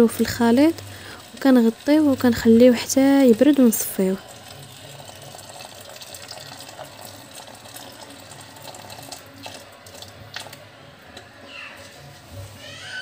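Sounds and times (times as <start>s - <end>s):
water pouring into metal pot: 0.1s - 10.7s.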